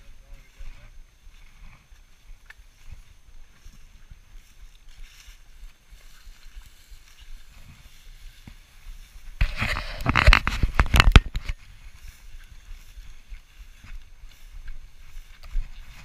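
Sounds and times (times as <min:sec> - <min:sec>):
dry grass swishing against legs: 0:01.3 - 0:16.0.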